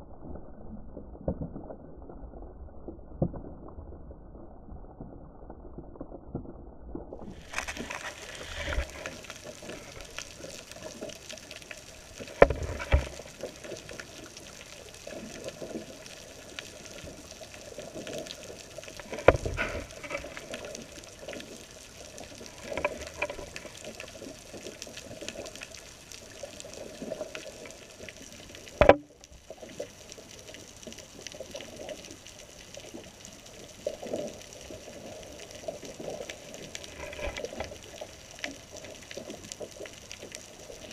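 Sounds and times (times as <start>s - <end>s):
muffled underwater hiss: 7.2s - 40.9s.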